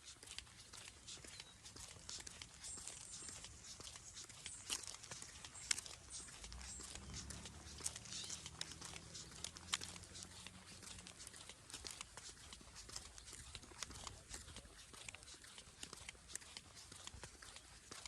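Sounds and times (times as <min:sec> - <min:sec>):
footsteps crunching on a trail: 0:00.0 - 0:18.0.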